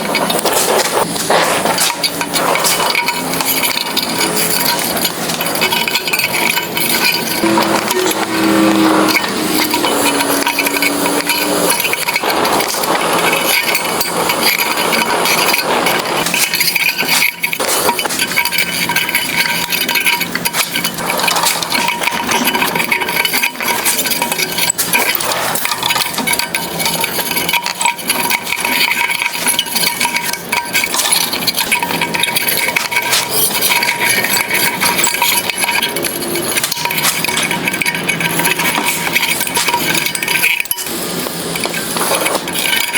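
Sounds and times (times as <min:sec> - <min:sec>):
pliers clinking on metal: 0:00.0 - 0:42.9.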